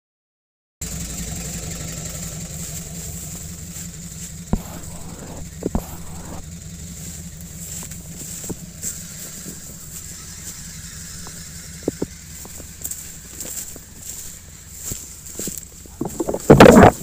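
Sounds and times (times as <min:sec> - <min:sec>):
car engine idling: 0:00.8 - 0:17.0.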